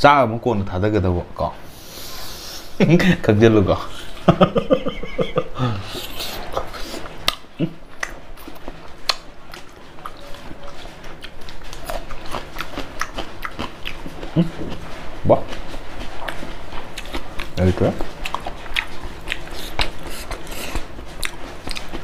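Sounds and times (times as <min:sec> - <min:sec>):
man chewing with mouth full: 0:03.8 - 0:22.0.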